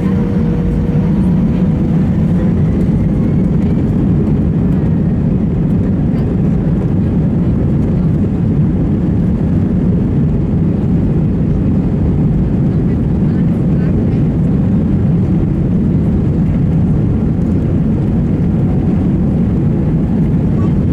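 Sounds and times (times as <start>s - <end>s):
jet engine roar in cabin: 0.0s - 20.9s.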